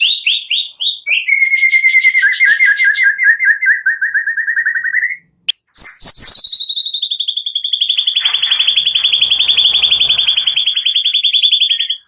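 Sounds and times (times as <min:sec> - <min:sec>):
songbird chirps and trill: 0:00.0 - 0:12.0.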